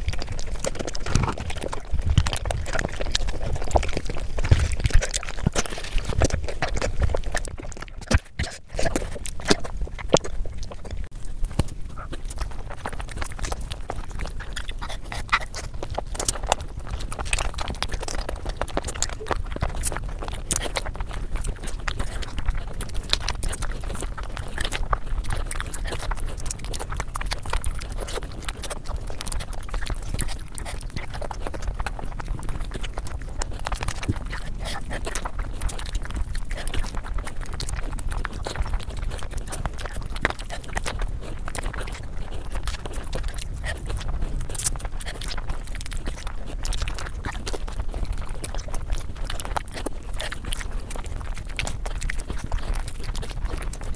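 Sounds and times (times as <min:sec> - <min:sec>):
low steady hum: 0:00.0 - 0:53.9
mouth-smacking clicks: 0:00.0 - 0:53.9
wet chewing: 0:00.0 - 0:53.9.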